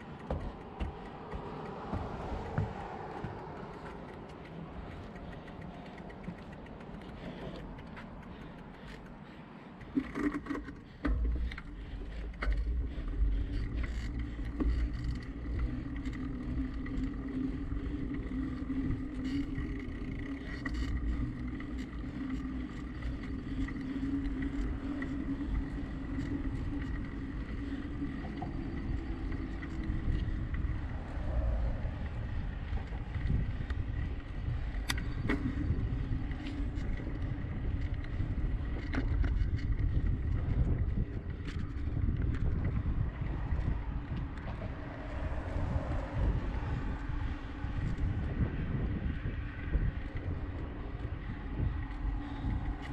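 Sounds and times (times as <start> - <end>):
bicycle tyre road noise: 0.0 - 52.9
wind buffeting microphone: 0.0 - 52.9.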